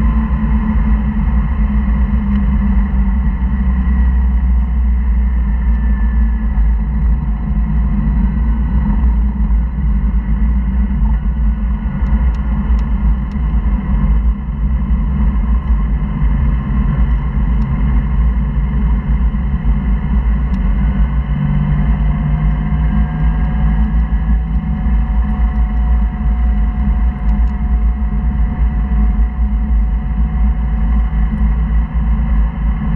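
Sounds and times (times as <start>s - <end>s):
car engine drone in cabin: 0.0s - 32.9s.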